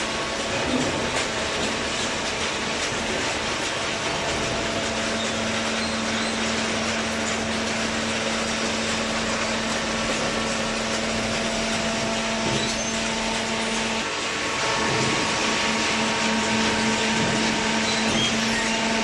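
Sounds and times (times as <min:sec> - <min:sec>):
baling machine running: 0:00.0 - 0:19.0.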